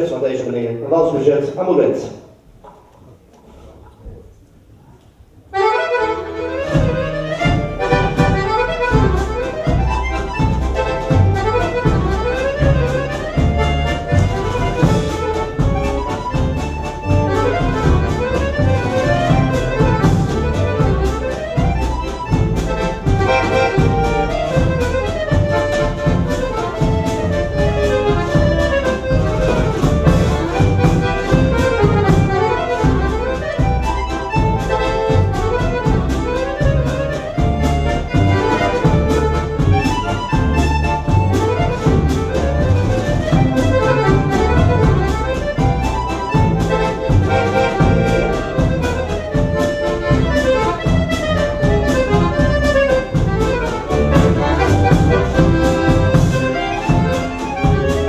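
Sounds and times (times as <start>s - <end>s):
accordion melody: 5.3s - 58.0s
double bass: 5.5s - 58.0s.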